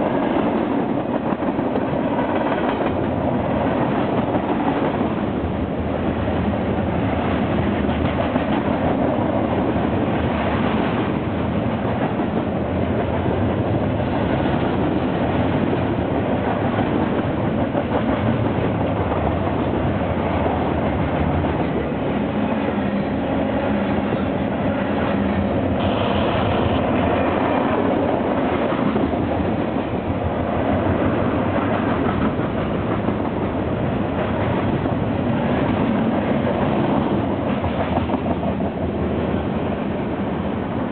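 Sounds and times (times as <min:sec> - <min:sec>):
freight train rumbling and rattling: 0:00.0 - 0:40.9.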